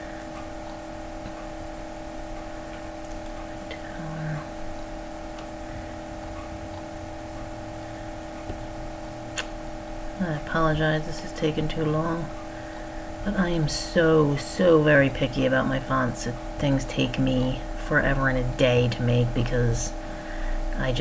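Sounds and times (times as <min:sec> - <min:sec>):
steady background hum with tones: 0:00.0 - 0:21.0.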